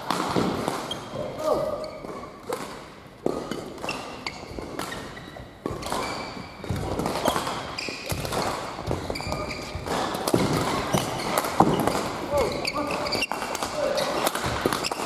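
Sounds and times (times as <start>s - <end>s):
shoes squeaking on court floor: 0.0s - 15.0s
rackets striking shuttlecock: 2.0s - 15.0s.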